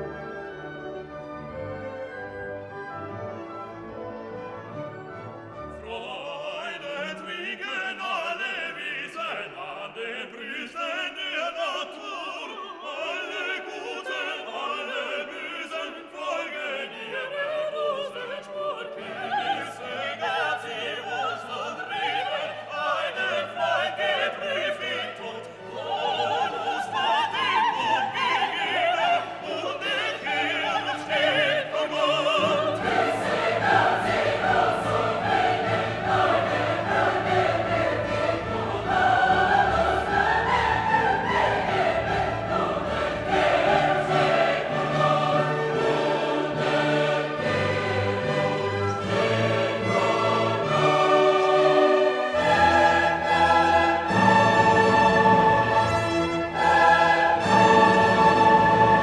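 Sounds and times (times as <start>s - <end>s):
orchestra with choir: 0.0s - 59.0s.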